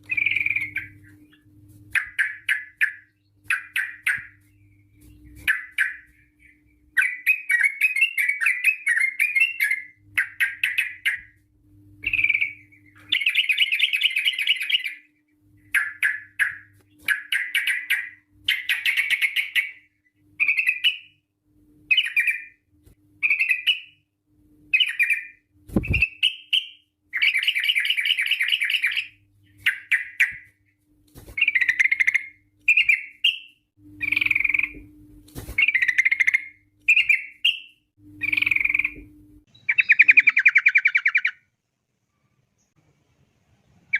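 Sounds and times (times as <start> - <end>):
bird chattering song: 0.0 - 11.4, 12.0 - 21.2, 21.9 - 22.6, 23.2 - 24.0, 24.7 - 30.6, 31.4 - 34.8, 35.6 - 41.5
faint low hum: 0.0 - 43.9.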